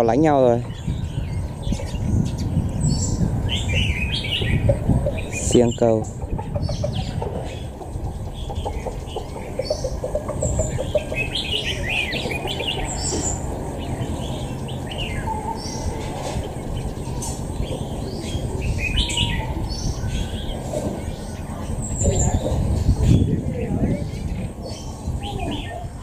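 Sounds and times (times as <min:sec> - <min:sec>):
birds singing whistles and chirps: 0:00.0 - 0:26.0.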